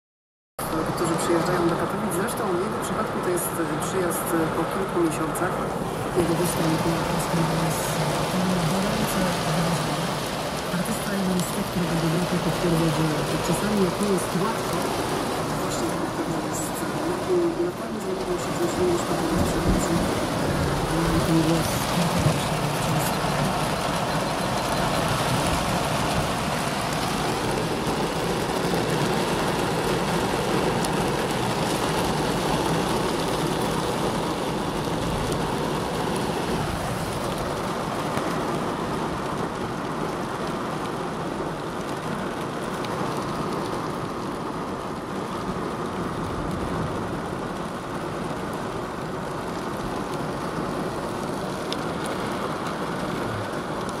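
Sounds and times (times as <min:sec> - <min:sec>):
heavy rain pounding on car roof: 0:00.6 - 0:54.0.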